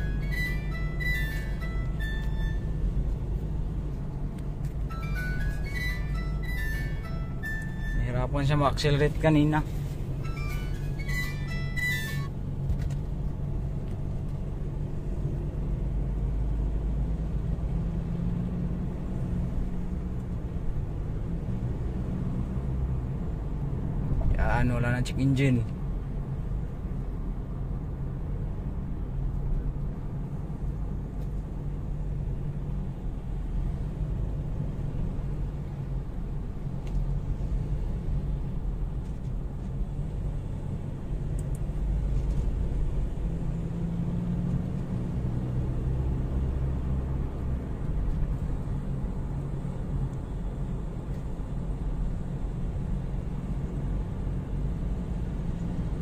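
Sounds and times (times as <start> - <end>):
engine and road noise rumble: 0.0 - 56.0.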